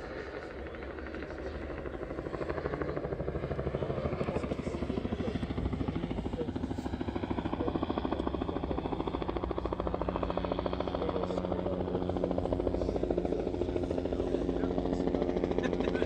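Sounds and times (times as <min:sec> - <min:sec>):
engine running with fast pulse: 0:00.0 - 0:16.0.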